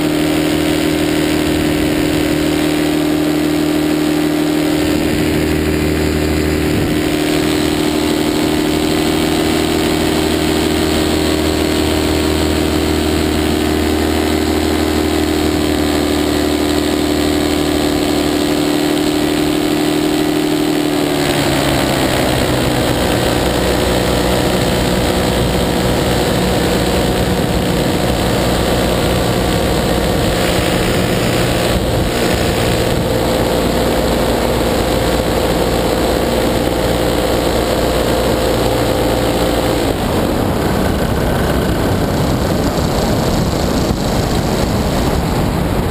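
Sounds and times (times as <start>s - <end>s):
paramotor engine and propeller: 0.0s - 45.9s.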